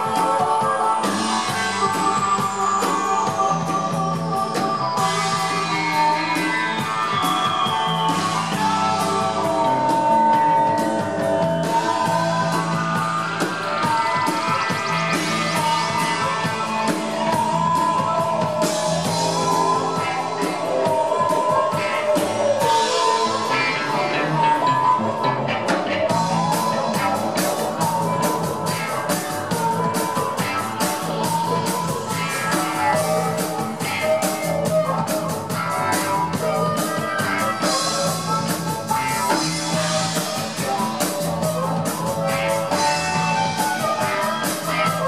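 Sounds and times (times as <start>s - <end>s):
harmonica long notes: 0.0s - 45.0s
live rock band playing: 0.0s - 45.0s.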